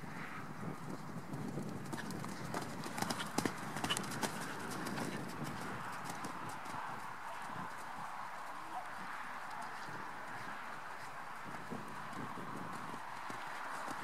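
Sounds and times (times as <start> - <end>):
horse hoofbeats on sand: 1.2 - 14.0.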